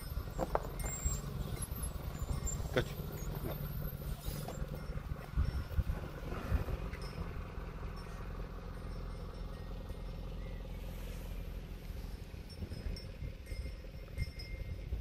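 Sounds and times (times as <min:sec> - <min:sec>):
car engine idling: 0:00.0 - 0:15.0
engine knocks: 0:00.0 - 0:15.0.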